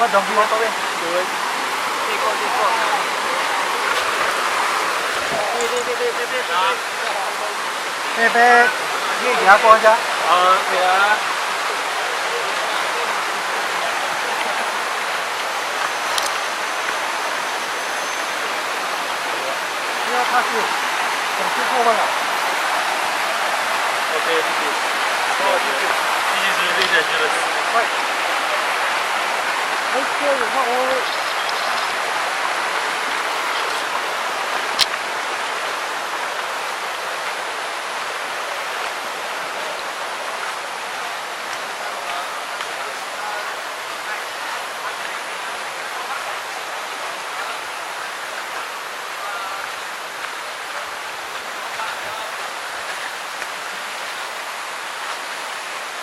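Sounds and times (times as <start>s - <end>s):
fast-flowing water rushing: 0.0s - 56.0s.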